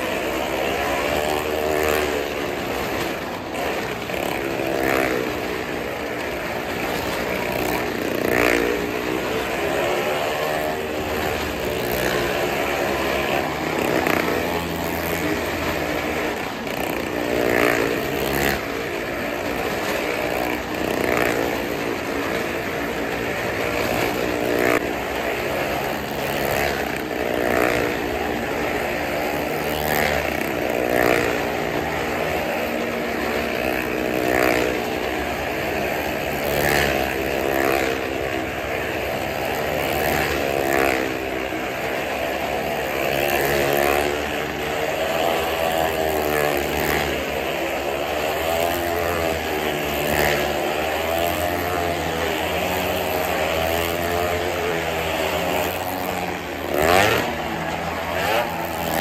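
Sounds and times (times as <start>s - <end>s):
motorcycle engine running hard: 0.0s - 59.0s.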